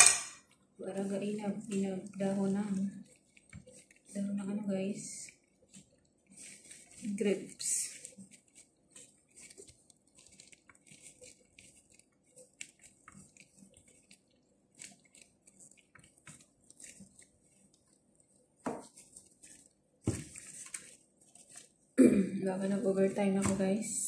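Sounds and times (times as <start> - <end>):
rustling and crinkling leaves: 0.0 - 22.0.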